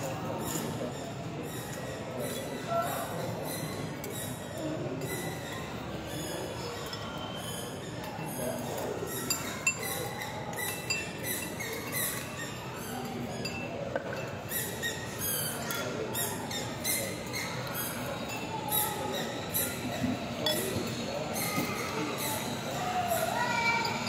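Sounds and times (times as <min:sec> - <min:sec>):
restaurant din: 0:00.0 - 0:24.0
glassware and cutlery clinking: 0:00.1 - 0:03.4, 0:04.0 - 0:24.0.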